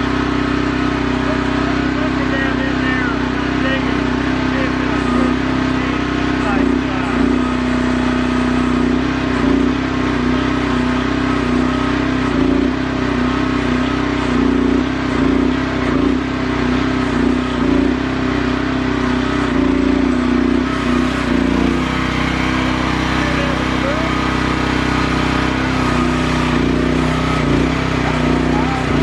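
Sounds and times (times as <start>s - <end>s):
mini-excavator engine running: 0.0s - 29.0s.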